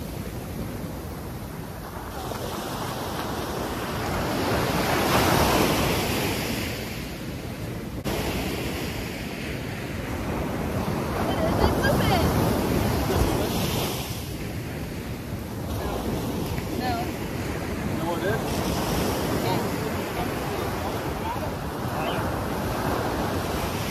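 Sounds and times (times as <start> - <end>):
ocean surf breaking: 0.0 - 23.9
wind rumbling on microphone: 0.0 - 23.9.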